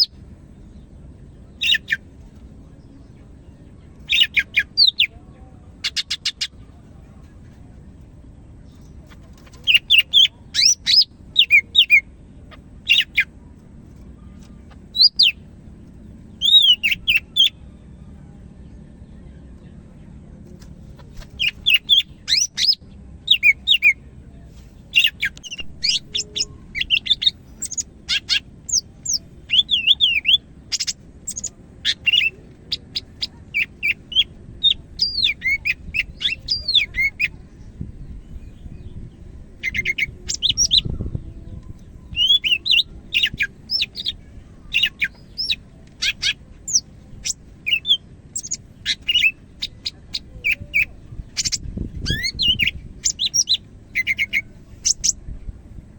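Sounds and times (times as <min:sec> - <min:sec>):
bird song with whistles and trills: 0:00.0 - 0:00.9, 0:01.5 - 0:02.1, 0:02.8 - 0:05.2, 0:08.7 - 0:12.1, 0:12.8 - 0:13.4, 0:14.2 - 0:15.4, 0:16.3 - 0:20.1, 0:21.2 - 0:24.1, 0:24.9 - 0:55.3.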